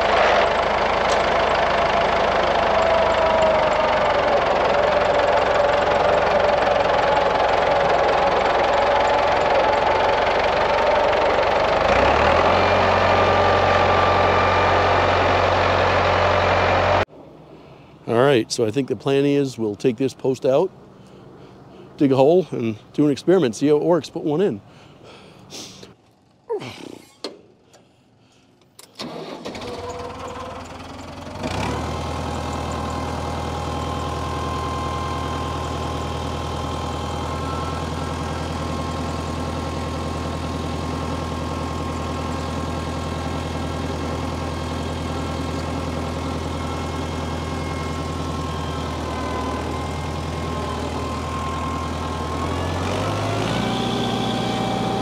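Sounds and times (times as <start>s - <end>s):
tractor engine cranking and idling: 0.0s - 55.0s.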